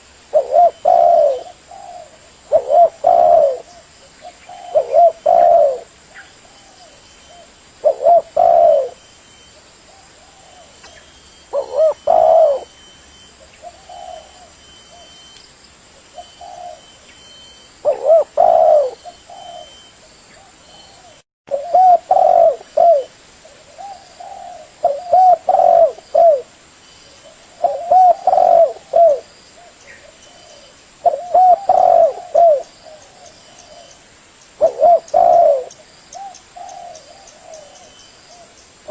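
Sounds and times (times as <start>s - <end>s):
dove cooing: 0.0s - 9.1s, 9.9s - 15.4s, 16.1s - 26.5s, 27.2s - 34.0s, 34.6s - 38.9s.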